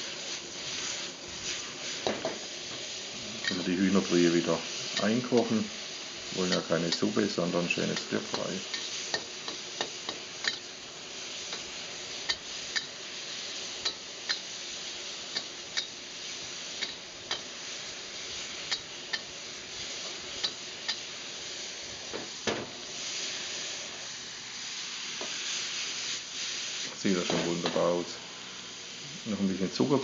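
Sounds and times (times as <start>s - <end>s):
utensil scraping a wok: 0.0s - 29.2s
food sizzling in a wok: 0.0s - 30.0s.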